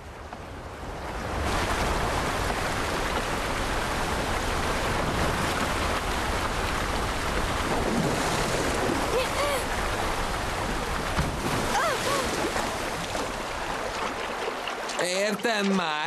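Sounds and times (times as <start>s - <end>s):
rushing river rapids: 1.3s - 16.0s.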